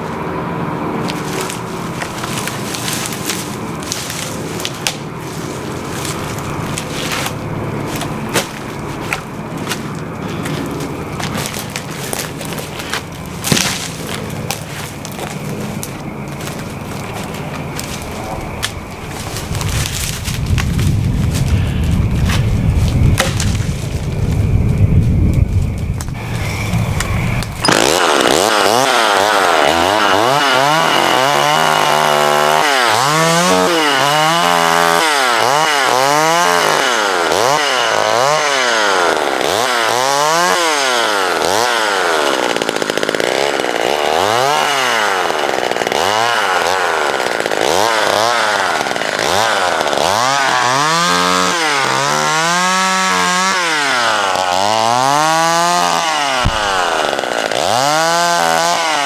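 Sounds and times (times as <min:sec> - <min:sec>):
chainsaw revving and cutting: 0:00.0 - 0:22.5, 0:26.2 - 0:59.0.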